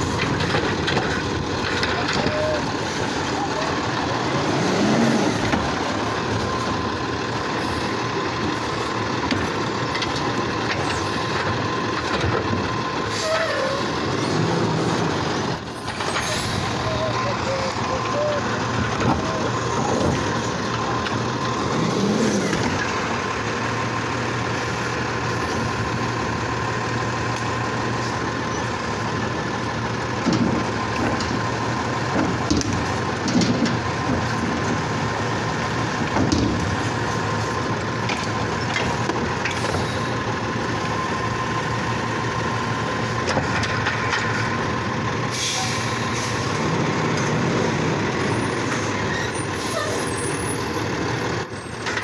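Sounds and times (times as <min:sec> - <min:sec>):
garbage truck diesel engine running: 0:00.0 - 0:52.0.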